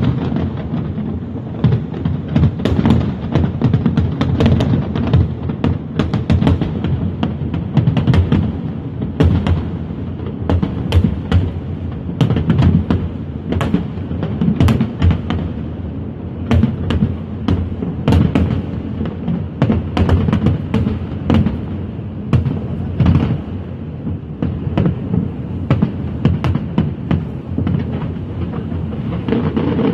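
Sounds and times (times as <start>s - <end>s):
fireworks bangs and cracks: 0.0s - 29.9s.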